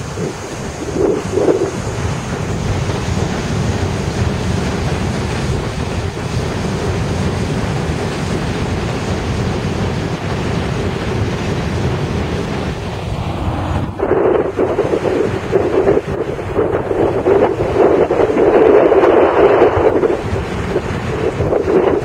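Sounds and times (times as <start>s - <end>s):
subway train rolling past: 0.0s - 21.4s
wind noise on microphone: 0.0s - 22.0s.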